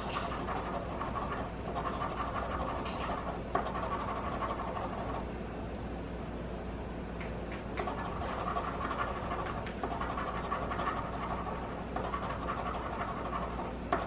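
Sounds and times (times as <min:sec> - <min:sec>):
scratching lottery ticket: 0:00.0 - 0:05.2, 0:07.8 - 0:14.0.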